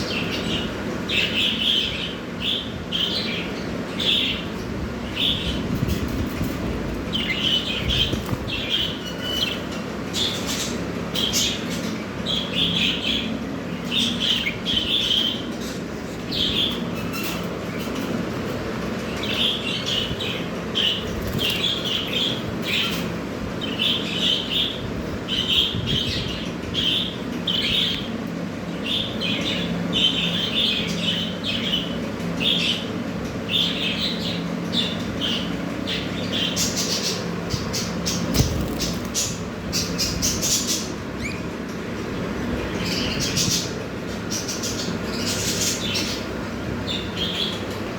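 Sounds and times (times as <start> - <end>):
budgerigars chirping and chattering: 0.0 - 47.9.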